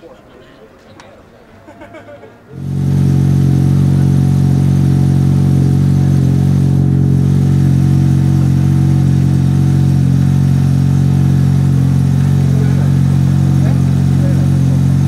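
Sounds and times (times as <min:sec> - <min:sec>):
rotary engine idling: 0:02.5 - 0:15.0.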